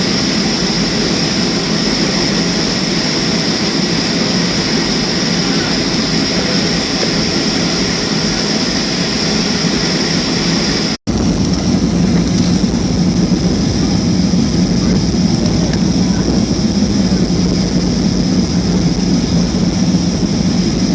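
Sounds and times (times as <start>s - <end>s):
jet cabin roar: 0.0s - 20.9s.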